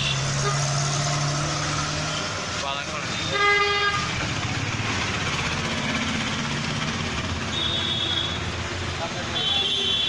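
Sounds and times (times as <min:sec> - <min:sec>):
vehicle engines and road noise: 0:00.0 - 0:10.0.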